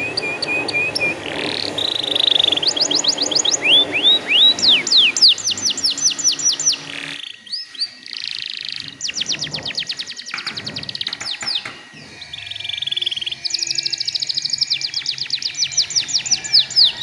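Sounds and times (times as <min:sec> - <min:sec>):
canary singing whistled trills: 0:00.0 - 0:17.0.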